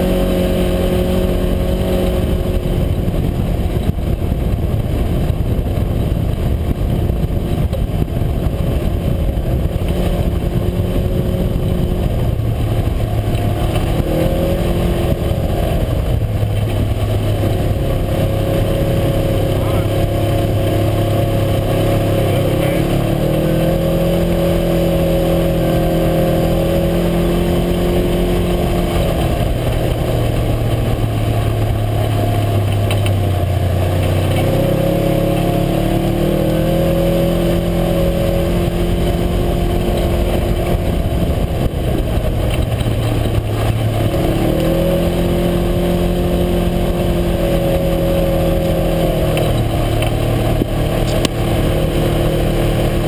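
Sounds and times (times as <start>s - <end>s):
steady rush of noise: 0.0s - 53.0s
utility vehicle engine revving: 0.0s - 53.0s.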